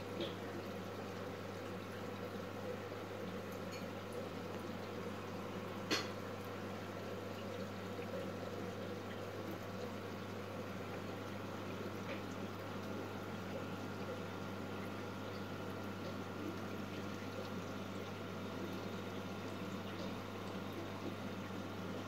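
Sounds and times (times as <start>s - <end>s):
aquarium filters bubbling: 0.0s - 22.0s.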